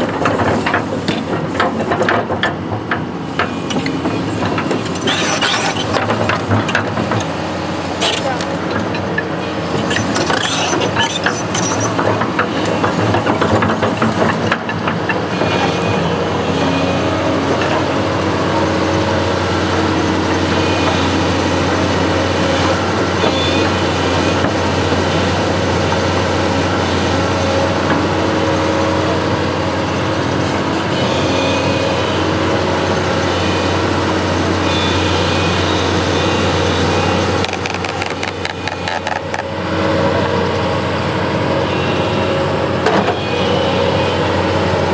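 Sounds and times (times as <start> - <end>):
construction machine engine humming: 0.0 - 44.9.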